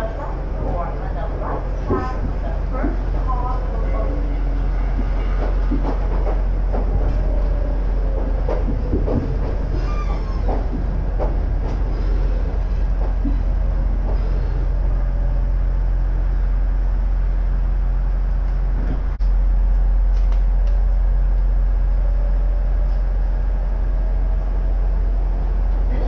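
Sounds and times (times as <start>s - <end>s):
train car rumble and hum: 0.0s - 26.0s.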